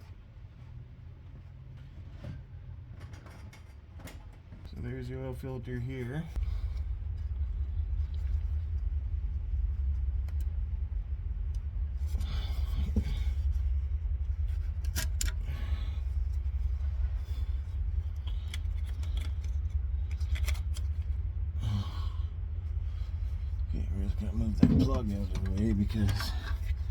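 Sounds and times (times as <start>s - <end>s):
steady low rumble: 0.0s - 26.9s.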